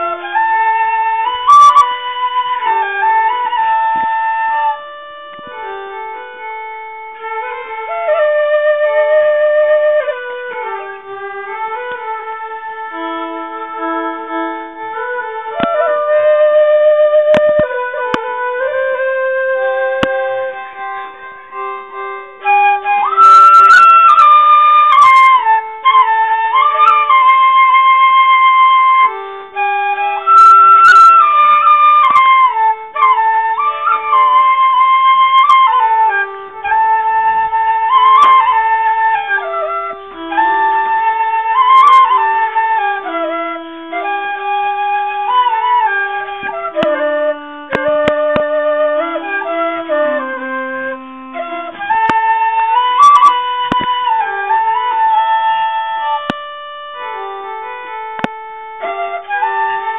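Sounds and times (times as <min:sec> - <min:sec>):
flute melody: 0:00.0 - 0:59.9.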